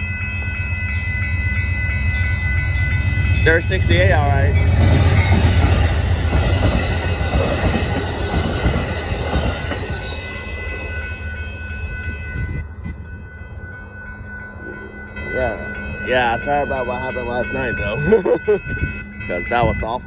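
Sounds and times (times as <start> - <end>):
steady high whine: 0.0 - 20.0
train wheels rumbling on rails: 0.0 - 20.0.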